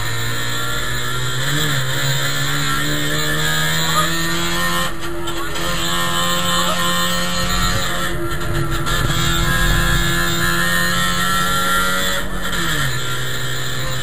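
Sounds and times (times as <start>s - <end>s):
two-stroke engine running: 0.0s - 14.0s.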